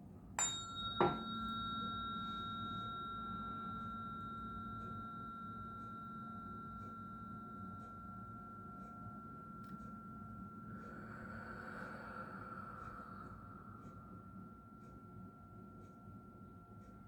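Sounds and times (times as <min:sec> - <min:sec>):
tuning fork ringing: 0:00.3 - 0:17.0.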